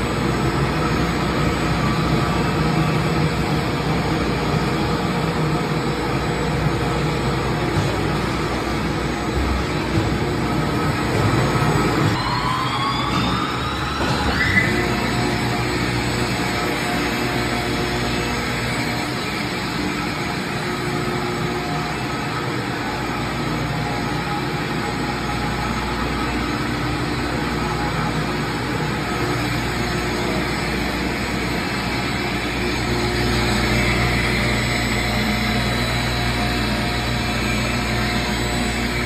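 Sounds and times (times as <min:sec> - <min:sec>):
paddle blender drone: 0:00.0 - 0:39.0.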